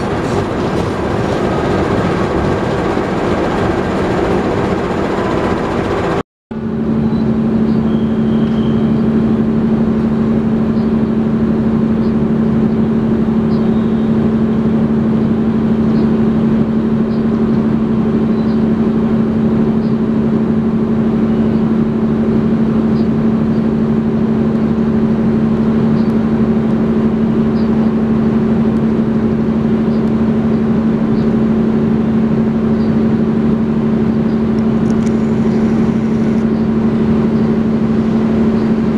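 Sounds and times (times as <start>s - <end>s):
diesel train engine humming: 0.0s - 38.9s
passing train: 0.0s - 38.9s.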